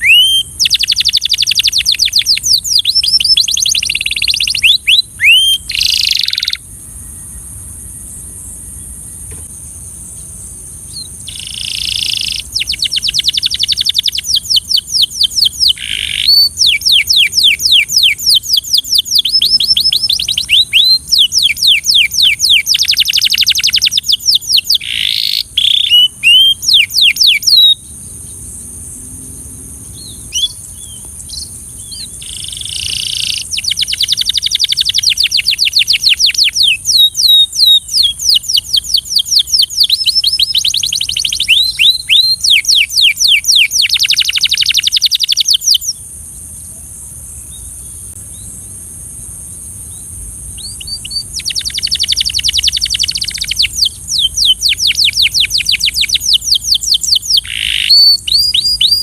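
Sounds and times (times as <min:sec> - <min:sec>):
canary singing trilled phrases: 0:00.0 - 0:06.6, 0:10.9 - 0:27.8, 0:30.0 - 0:46.0, 0:50.6 - 0:59.0.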